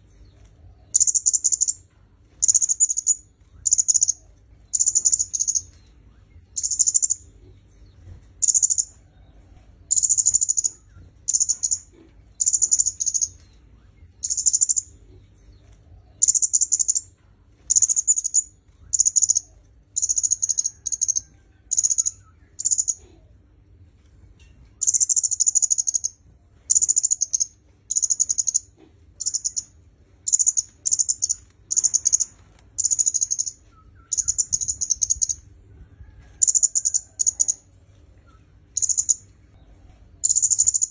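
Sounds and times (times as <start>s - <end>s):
bird chirping: 0.0s - 9.0s, 9.9s - 23.2s, 24.8s - 35.5s, 36.4s - 40.9s.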